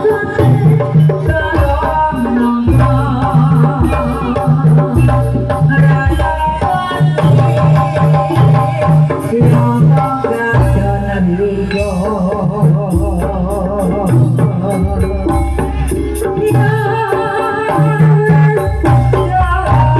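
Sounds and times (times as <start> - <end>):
drums beating: 0.0 - 19.9
wavering melody: 0.4 - 19.9.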